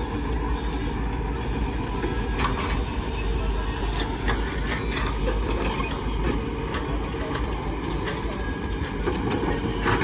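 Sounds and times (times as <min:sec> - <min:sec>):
heavy vehicle rumbling: 0:00.0 - 0:10.0.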